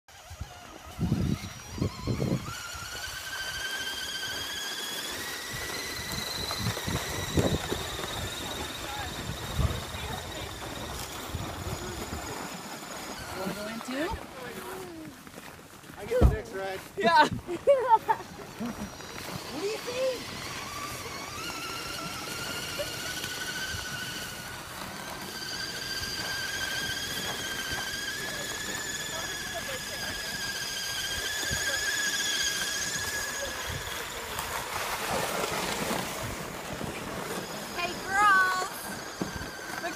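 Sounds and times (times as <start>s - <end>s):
electric motor and gear whine: 0.1s - 39.9s.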